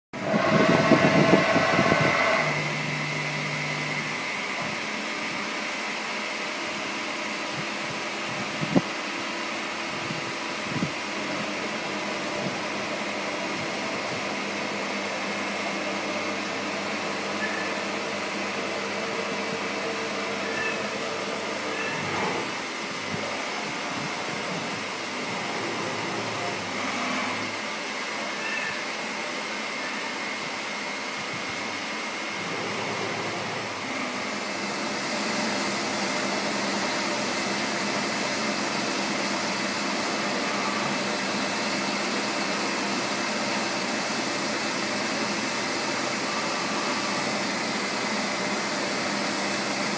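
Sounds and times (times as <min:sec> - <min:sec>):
milling machine hum and whine: 0:00.2 - 0:49.9.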